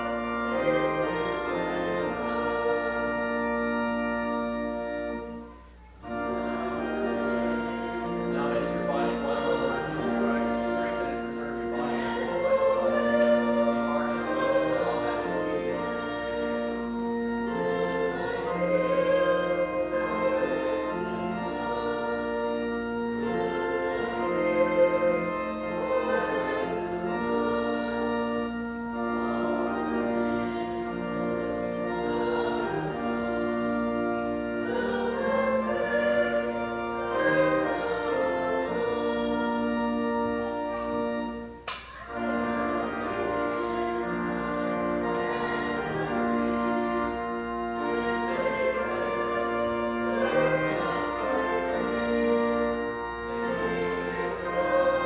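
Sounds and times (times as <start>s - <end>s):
organ playing a hymn: 0.0s - 55.0s
voices singing: 0.0s - 55.0s.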